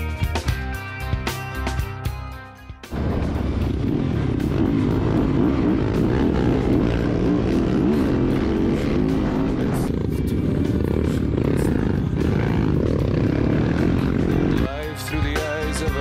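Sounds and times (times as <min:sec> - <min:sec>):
motorbike engine revving: 0:02.9 - 0:16.0.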